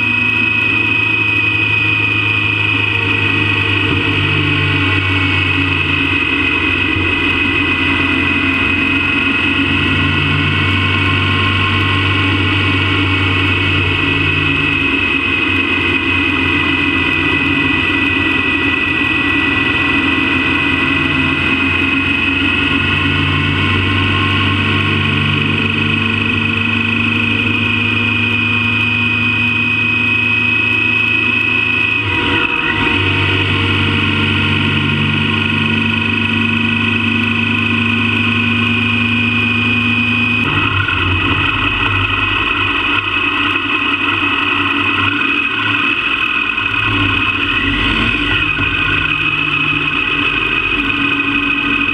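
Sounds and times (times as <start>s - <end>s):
motorcycle engine cruising: 0.0s - 51.9s
road and wind noise: 0.0s - 51.9s.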